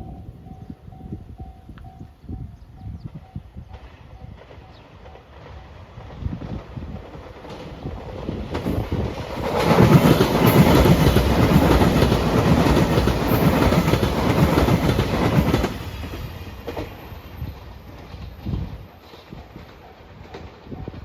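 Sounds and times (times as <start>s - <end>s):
train wheels clattering: 3.7s - 21.0s.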